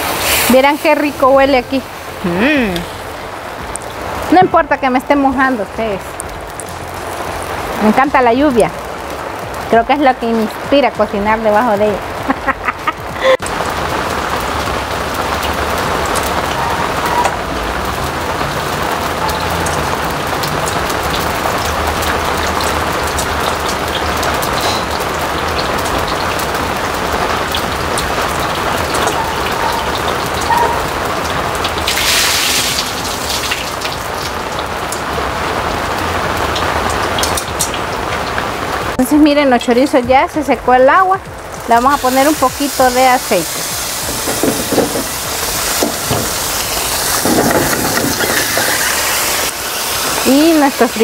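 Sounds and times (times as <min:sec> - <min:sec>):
rain falling: 0:00.0 - 0:51.0.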